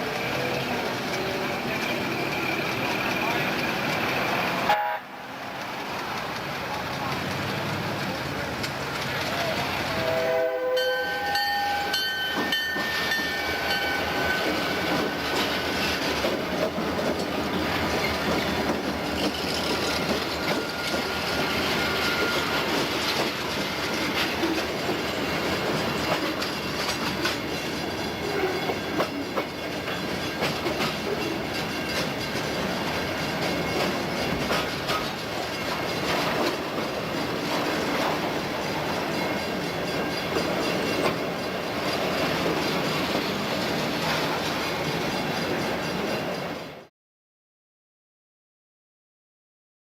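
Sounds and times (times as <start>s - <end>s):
train wheels clacking on rails: 0.0s - 4.8s, 5.4s - 10.2s, 10.8s - 46.9s
freight train rumble: 0.0s - 46.9s.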